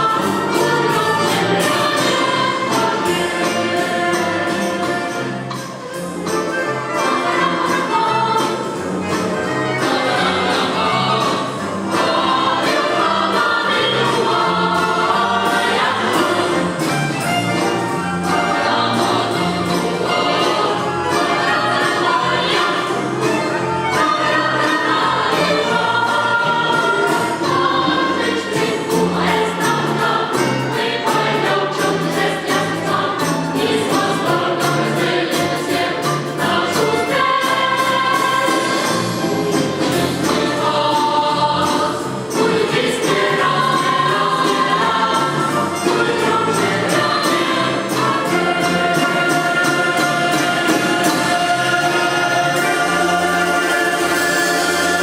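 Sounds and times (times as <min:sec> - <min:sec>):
boys choir singing: 0:00.0 - 0:05.4, 0:06.9 - 0:17.0, 0:18.2 - 0:55.0
folk instrument orchestra: 0:00.0 - 0:55.0.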